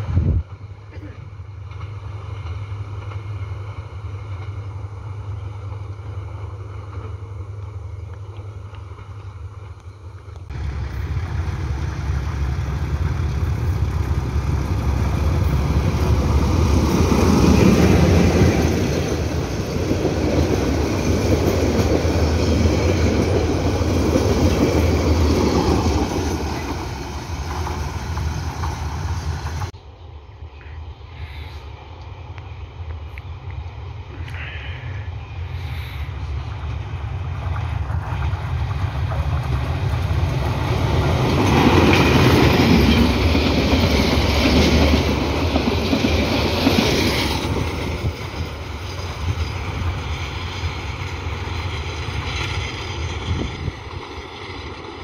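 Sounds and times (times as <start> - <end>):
train wheels on rails: 0.0 - 29.8, 30.5 - 55.0
diesel locomotive passing: 0.0 - 55.0.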